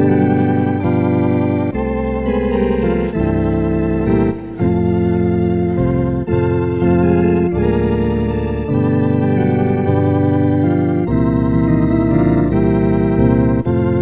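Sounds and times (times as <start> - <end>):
organ playing tremolo chords: 0.0 - 14.0.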